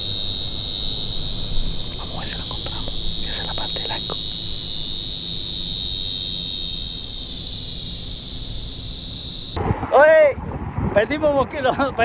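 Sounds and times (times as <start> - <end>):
high-pitched insect chorus: 0.0 - 10.2.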